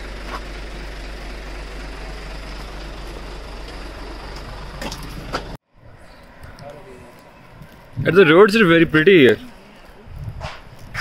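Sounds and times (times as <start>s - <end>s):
bus engine rumbling: 0.0s - 11.0s
road noise: 0.0s - 11.0s.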